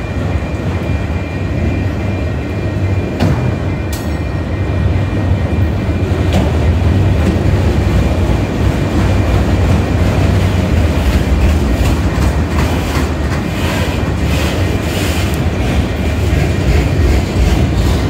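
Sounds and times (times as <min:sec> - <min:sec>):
steel wheels rumbling on rails: 0:00.0 - 0:18.0
train cars clicking and clanking: 0:00.0 - 0:18.0.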